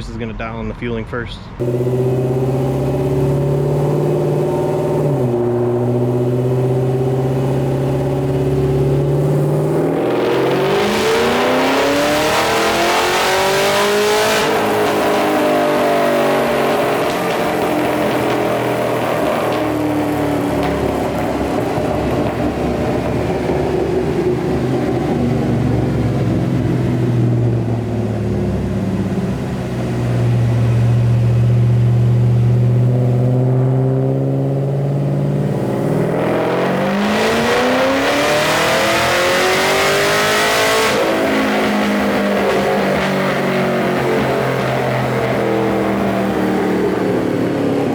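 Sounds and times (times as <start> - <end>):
car engine revving on a dyno: 1.6 - 47.9.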